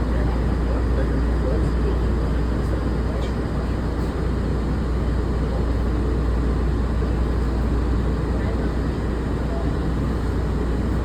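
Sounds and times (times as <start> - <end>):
monorail train running rumble: 0.0 - 11.0.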